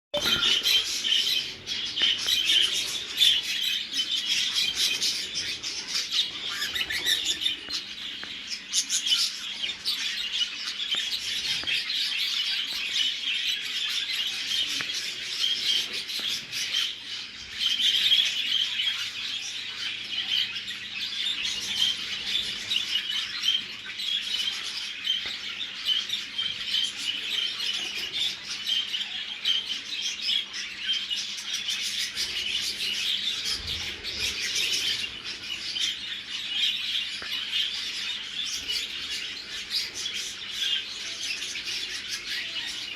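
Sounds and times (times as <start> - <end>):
budgerigars chattering and chirping: 0.2 - 42.9.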